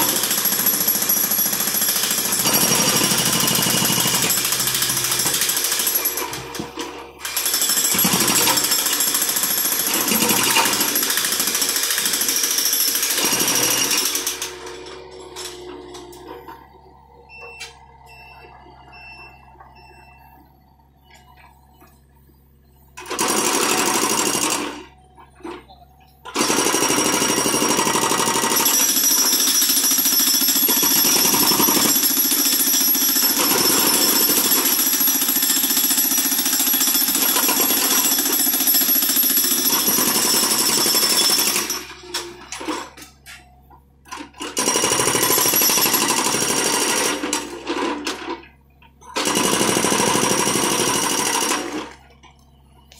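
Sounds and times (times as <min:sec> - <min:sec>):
hydraulic breaker pounding concrete: 0:00.0 - 0:17.9, 0:23.0 - 0:52.4.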